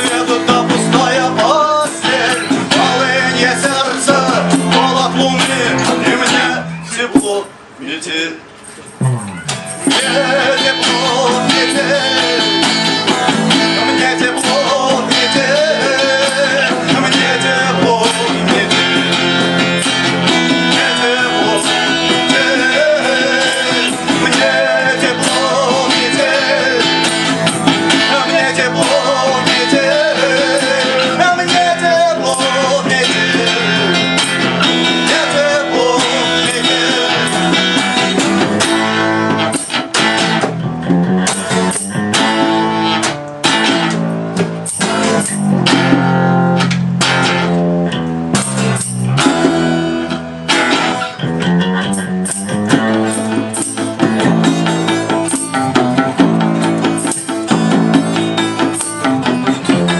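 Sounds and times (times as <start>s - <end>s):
live rock band playing: 0.0s - 7.3s, 8.8s - 59.9s.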